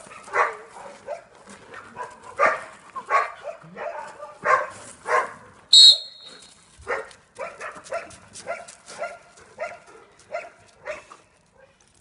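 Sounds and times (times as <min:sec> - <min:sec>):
dog barking: 0:00.0 - 0:05.6, 0:06.8 - 0:11.8.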